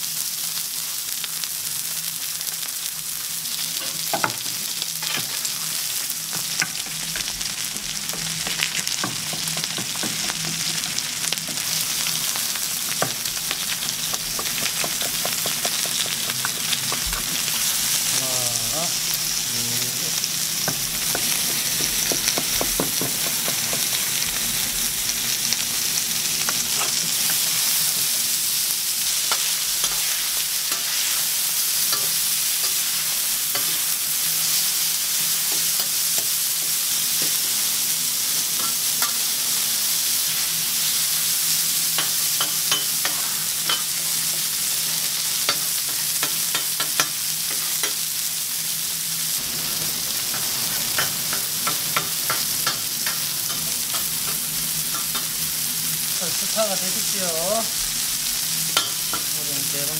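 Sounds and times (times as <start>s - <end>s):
pork sizzling on griddle: 0.0s - 59.9s.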